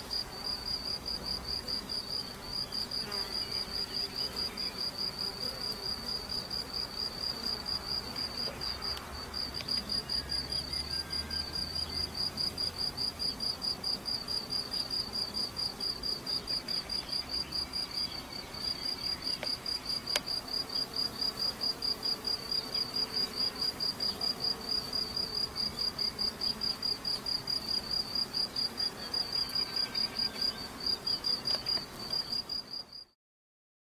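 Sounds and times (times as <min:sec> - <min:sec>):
honeybees humming: 0:00.0 - 0:32.9
cricket chirping: 0:00.1 - 0:05.2, 0:05.8 - 0:33.2.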